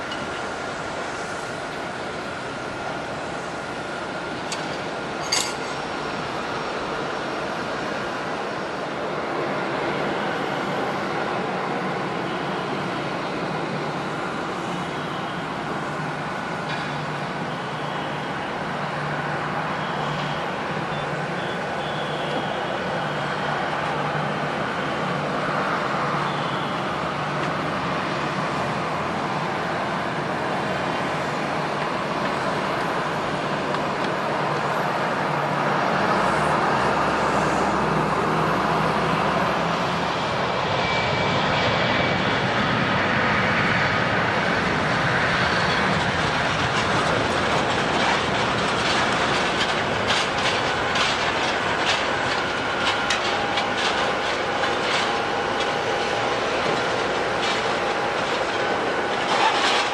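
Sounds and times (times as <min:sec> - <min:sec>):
jet airliner engines running: 0:00.0 - 0:59.9.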